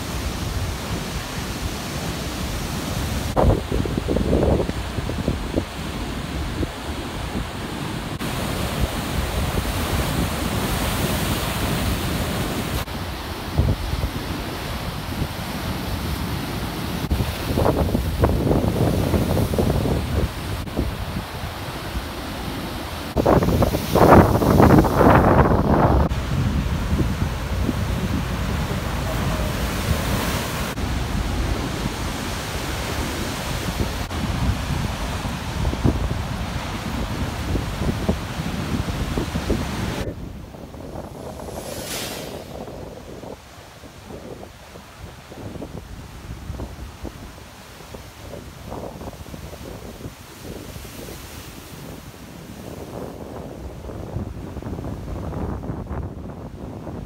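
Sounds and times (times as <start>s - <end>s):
storm waves breaking on shore: 0.0s - 57.0s
wind buffeting microphone: 2.8s - 22.2s, 22.9s - 57.0s.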